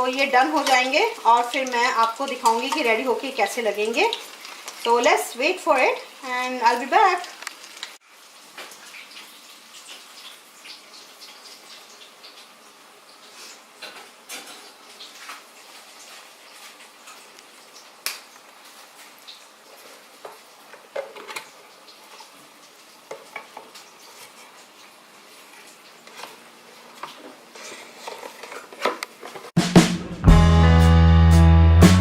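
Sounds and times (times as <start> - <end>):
food sizzling in hot oil: 0.0 - 28.8.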